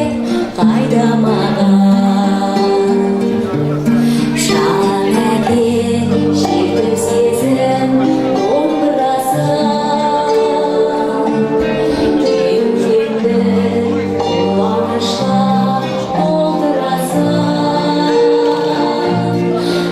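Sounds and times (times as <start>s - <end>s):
instrumental backing music: 0.0s - 19.9s
person singing: 0.0s - 19.9s.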